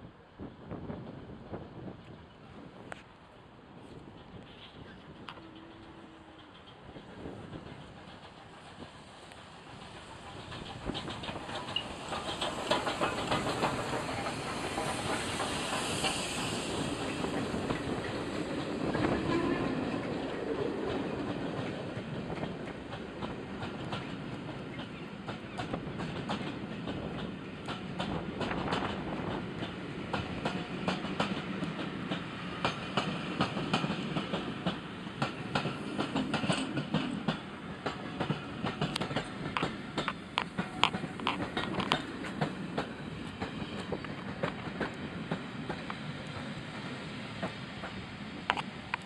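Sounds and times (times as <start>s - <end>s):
train rumble: 0.0s - 49.0s
train wheels clattering over rail joints: 4.0s - 49.0s.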